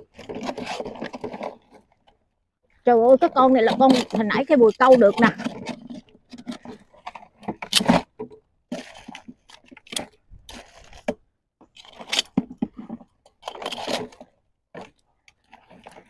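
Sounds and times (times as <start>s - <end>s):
crabs scraping and crunching: 0.0s - 16.0s.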